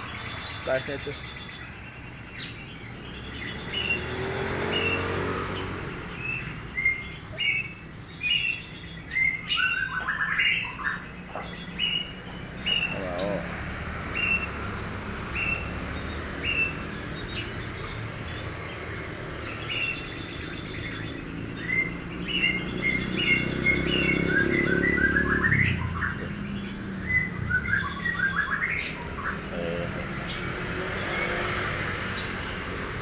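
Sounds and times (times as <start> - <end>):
parrots chirping and calling: 0.0 - 33.0.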